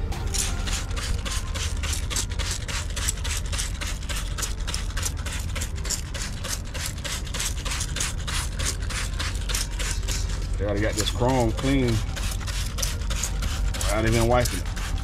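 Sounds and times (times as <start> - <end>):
hand scrubbing metal wheel: 0.0 - 15.0
steady low hum: 0.0 - 15.0.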